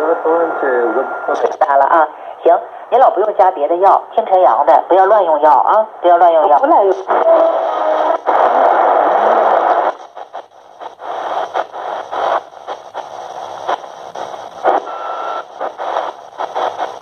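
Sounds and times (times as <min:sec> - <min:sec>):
radio hiss and static: 0:00.0 - 0:17.0
radio station sound: 0:00.0 - 0:17.0.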